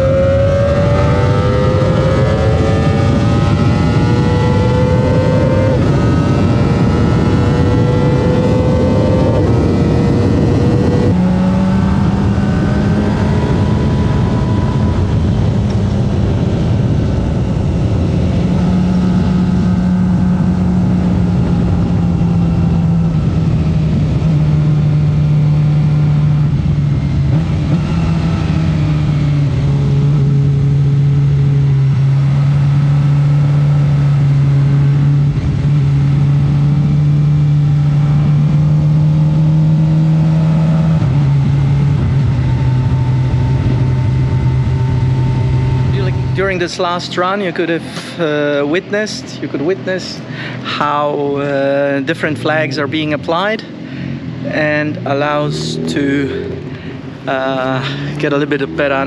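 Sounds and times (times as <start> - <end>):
wind rush: 0.0 - 30.8, 34.8 - 59.0
motorcycle engine accelerating: 0.0 - 59.0.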